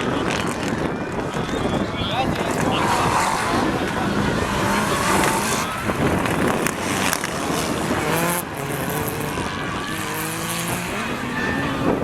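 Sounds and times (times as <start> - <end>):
heavy road noise: 0.0 - 12.0
rally car engine accelerating: 0.0 - 12.0.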